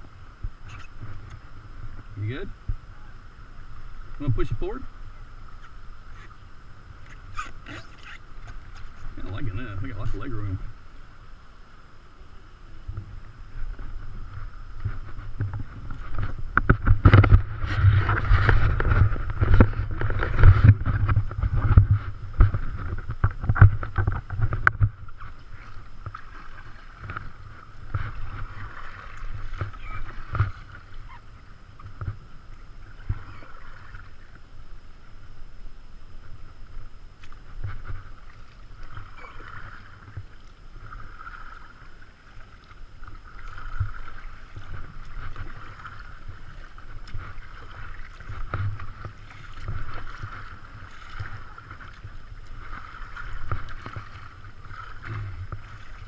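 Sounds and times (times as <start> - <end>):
paddle splashes: 0.0 - 11.4, 12.3 - 35.3, 36.1 - 56.0
rushing river water: 0.0 - 56.0.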